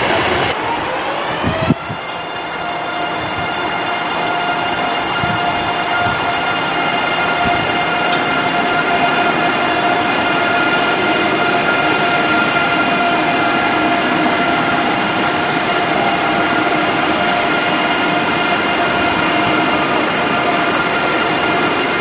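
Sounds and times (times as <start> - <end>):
train rolling noise: 0.0 - 22.0.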